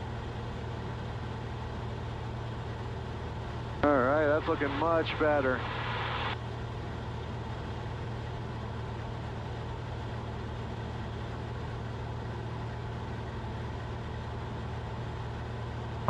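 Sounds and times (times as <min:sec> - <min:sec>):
propeller aircraft engine droning: 0:00.0 - 0:16.0.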